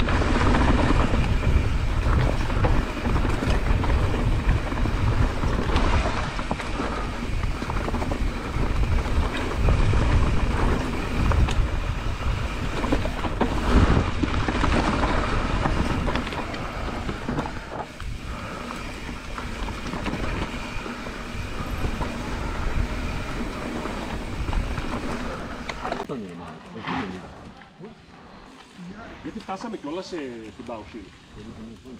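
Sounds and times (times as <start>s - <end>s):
bike rattling over bumps: 0.0s - 26.1s
tyres rumbling over dirt: 0.0s - 31.9s.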